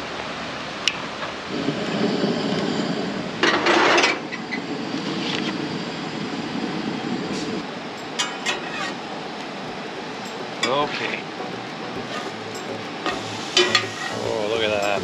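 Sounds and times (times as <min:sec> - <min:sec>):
camp stove burner hissing: 0:00.0 - 0:15.0.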